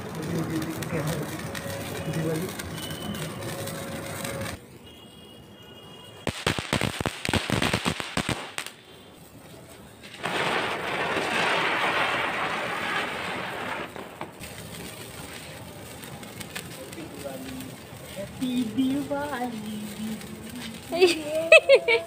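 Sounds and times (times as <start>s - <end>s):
firework crackling pops: 0.0s - 4.6s, 6.2s - 22.0s
firework fountain hiss: 0.0s - 4.8s, 5.7s - 22.0s.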